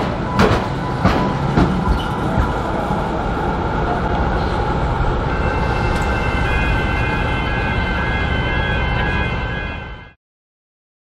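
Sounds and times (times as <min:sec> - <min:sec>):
high multi-tone whine: 0:00.0 - 0:10.2
tram wheels and motors: 0:00.0 - 0:10.2.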